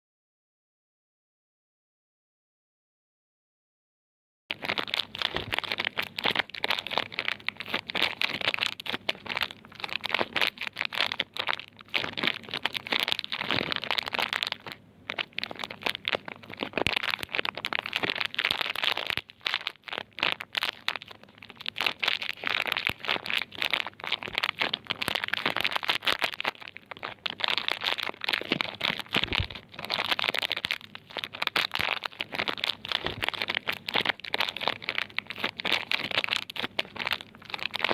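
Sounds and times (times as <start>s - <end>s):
plastic wrapping crinkling: 4.5s - 37.9s.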